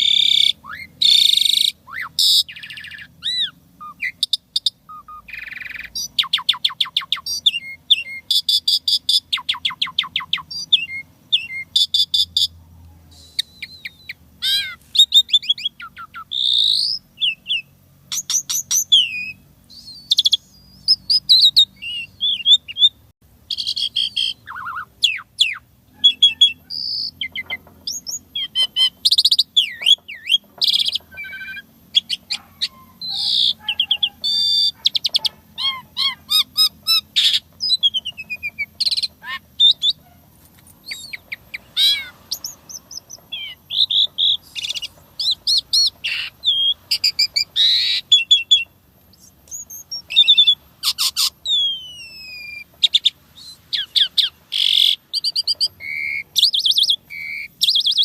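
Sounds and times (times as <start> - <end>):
starling singing varied song: 0.0 - 58.0.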